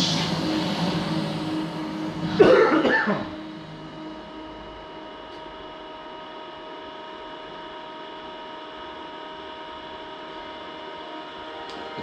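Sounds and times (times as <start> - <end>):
cooling fan hiss: 0.0 - 12.0.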